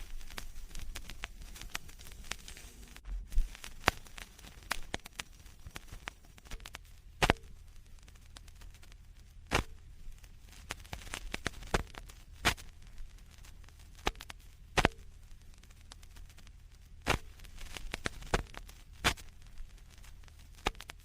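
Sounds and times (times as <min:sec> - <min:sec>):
faint low rumble: 0:00.0 - 0:21.0
vinyl crackles and clicks: 0:00.0 - 0:21.0
vinyl pops: 0:00.0 - 0:21.0.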